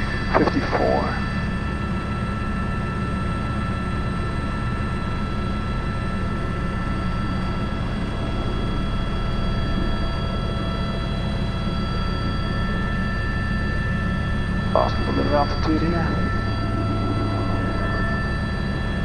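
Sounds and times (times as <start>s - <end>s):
helicopter rotor noise: 0.0s - 19.0s
helicopter turbine whine: 0.0s - 19.0s.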